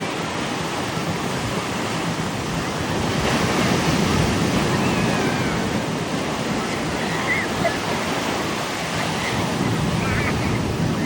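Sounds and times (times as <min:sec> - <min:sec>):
waves breaking on shore: 0:00.0 - 0:11.0.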